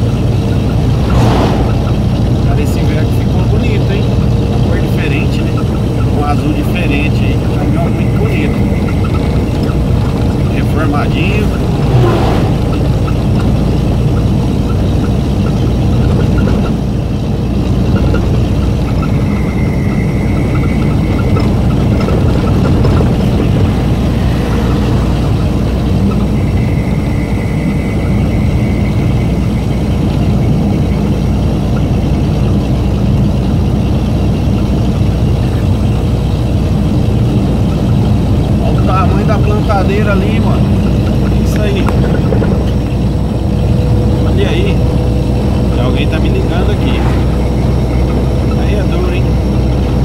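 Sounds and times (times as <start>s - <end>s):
truck engine and tyre noise: 0.0s - 50.0s.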